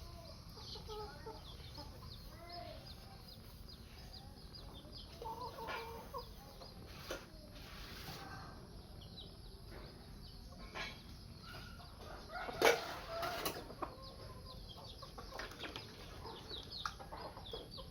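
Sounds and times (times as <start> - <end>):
birds chirping and clucking: 0.0 - 17.9.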